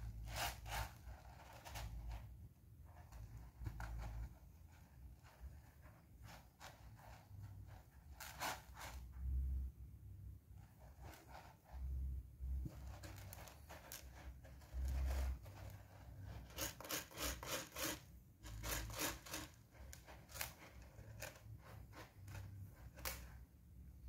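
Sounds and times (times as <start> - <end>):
kitten scratching in cat litter: 0.0 - 9.5, 10.5 - 23.4.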